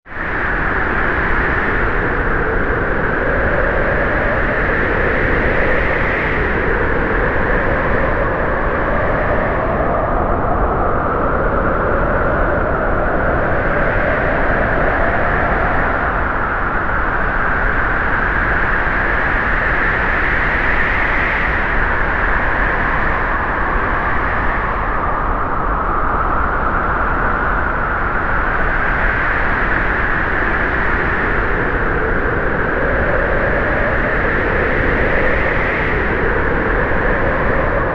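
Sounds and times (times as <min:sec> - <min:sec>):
strong wind rushing: 0:00.0 - 0:37.9.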